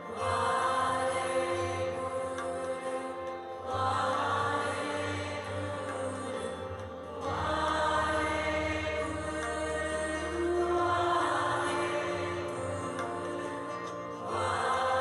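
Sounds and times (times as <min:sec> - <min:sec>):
sustained chords: 0:00.0 - 0:15.0
voices chanting a mantra: 0:00.0 - 0:15.0.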